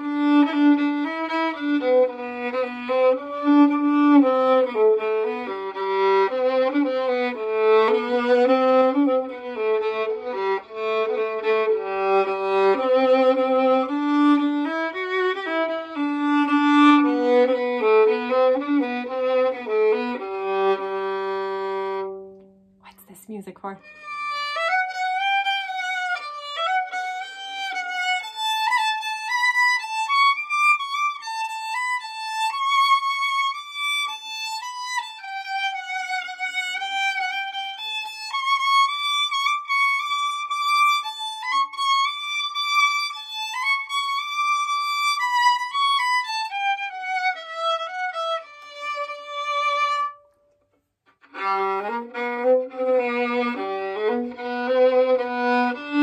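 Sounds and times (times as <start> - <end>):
solo violin melody: 0.0 - 22.6, 23.8 - 56.0.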